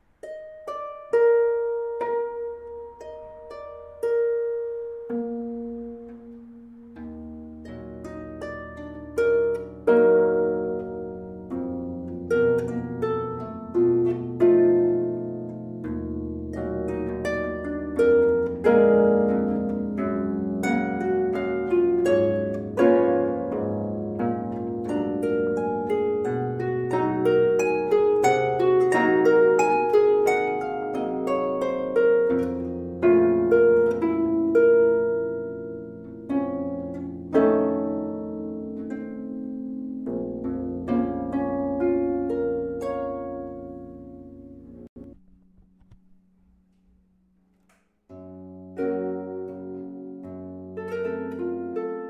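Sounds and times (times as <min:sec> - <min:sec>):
harp playing: 0:00.0 - 0:46.2, 0:48.1 - 0:52.0.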